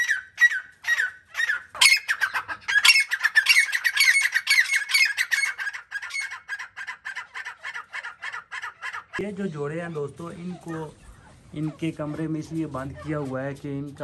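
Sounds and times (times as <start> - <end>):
birds squawking calls: 0.0 - 13.6.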